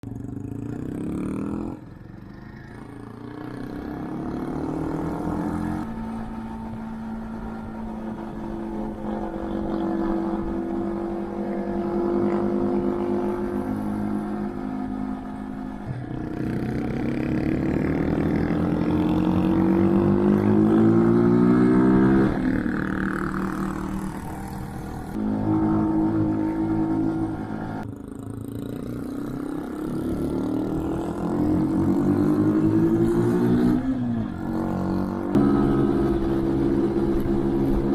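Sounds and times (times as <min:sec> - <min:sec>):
motorcycle engine shifting gears: 0:00.0 - 0:37.9.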